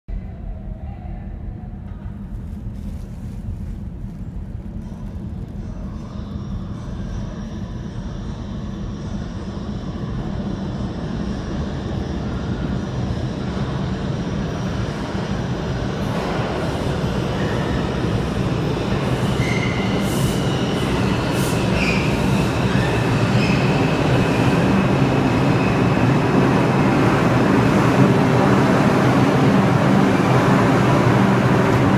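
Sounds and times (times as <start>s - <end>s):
subway train wheels and motors rumbling: 0.1s - 31.9s.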